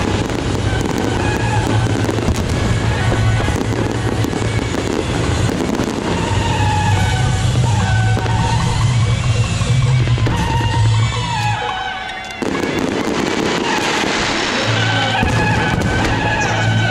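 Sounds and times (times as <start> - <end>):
fireworks crackling: 0.0 - 16.9
loud music: 0.0 - 16.9.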